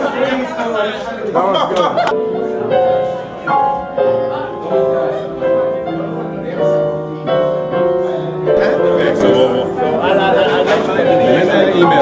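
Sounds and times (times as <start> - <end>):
piano playing sustained chords: 2.0 - 12.0.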